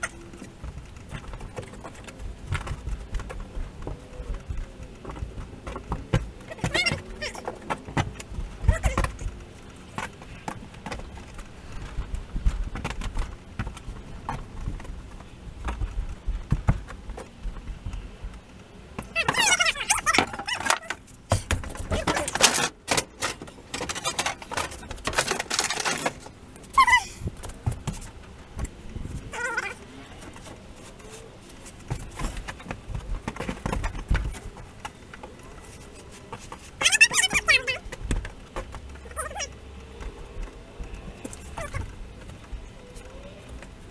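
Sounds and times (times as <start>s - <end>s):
objects shifting among loose materials: 0.0s - 43.9s.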